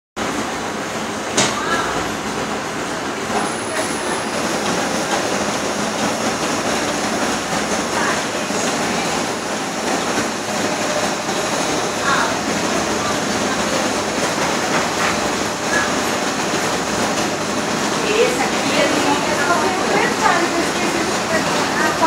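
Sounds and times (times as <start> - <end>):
gnocchi machine running: 0.2 - 22.0.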